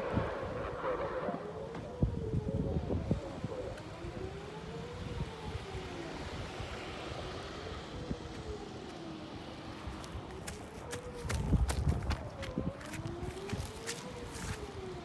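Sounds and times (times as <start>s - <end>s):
distant warning siren wailing: 0.0s - 15.0s
wind rumbling on microphone: 0.0s - 15.0s.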